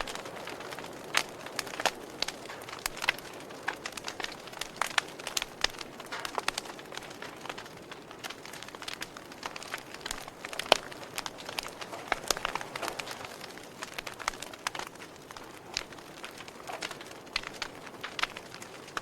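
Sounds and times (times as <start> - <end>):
campfire crackling: 0.0 - 19.0
sharp fire pops: 0.0 - 19.0.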